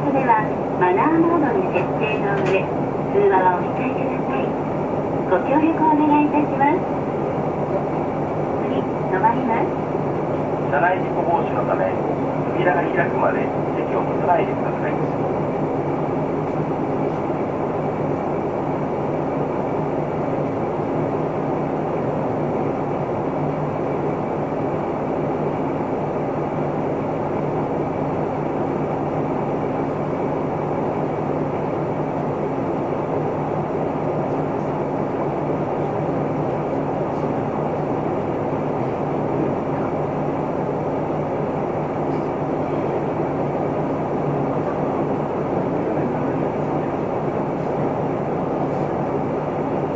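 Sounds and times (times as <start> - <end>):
bus engine hum: 0.0 - 49.9.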